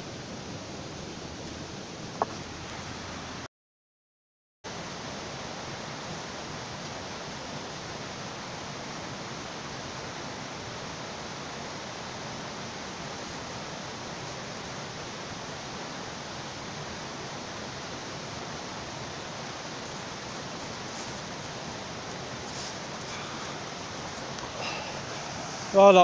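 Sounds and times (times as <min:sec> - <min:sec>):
rushing outdoor background noise: 0:00.0 - 0:03.5, 0:04.7 - 0:26.0.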